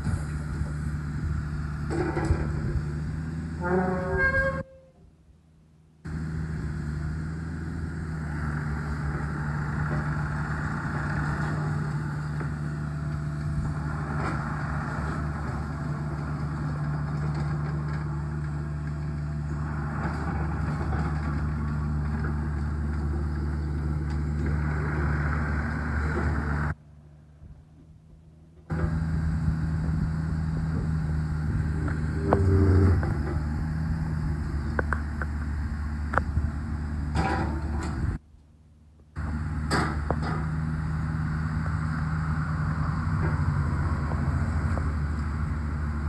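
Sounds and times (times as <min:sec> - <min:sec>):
excavator diesel engine running: 0:00.0 - 0:04.6, 0:06.1 - 0:26.8, 0:28.7 - 0:38.2, 0:39.2 - 0:46.0.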